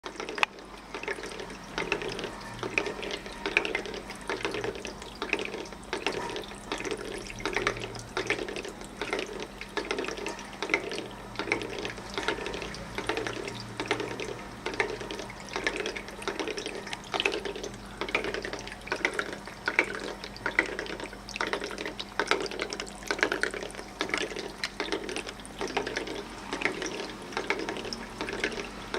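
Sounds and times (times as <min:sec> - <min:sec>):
fountain water trickling and gurgling: 0:00.0 - 0:28.9.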